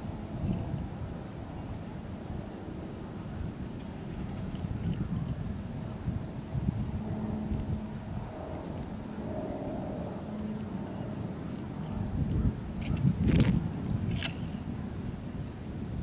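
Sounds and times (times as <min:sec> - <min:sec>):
insects chirring: 0:00.0 - 0:16.0
wind buffeting the microphone: 0:00.0 - 0:16.0.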